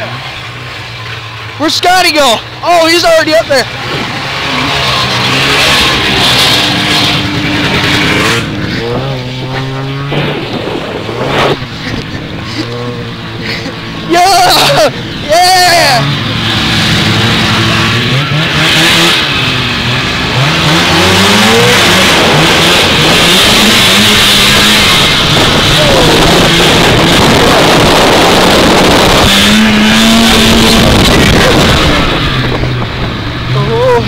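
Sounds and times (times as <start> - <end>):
snowmobile engine revving: 0.0 - 34.0
loud rushing noise: 2.0 - 34.0.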